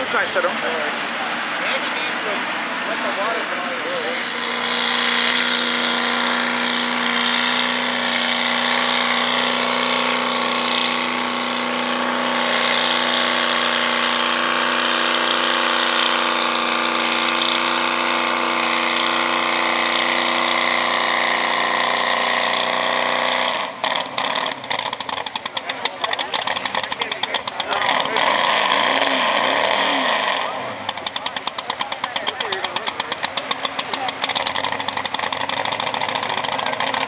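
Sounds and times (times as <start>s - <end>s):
engine choppy idle: 0.0s - 37.0s
truck engine at high revs: 0.0s - 37.0s.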